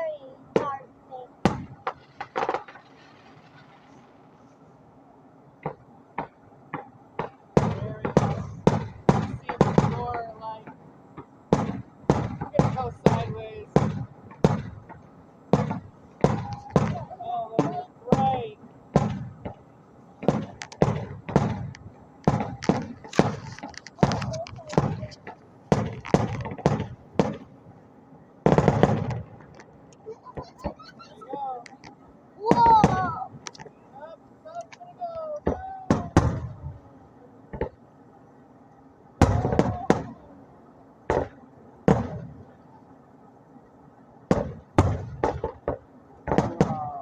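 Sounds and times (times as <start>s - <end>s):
fireworks bangs: 0.0s - 27.8s, 28.4s - 37.9s, 39.2s - 40.4s, 41.0s - 42.8s, 44.3s - 47.0s.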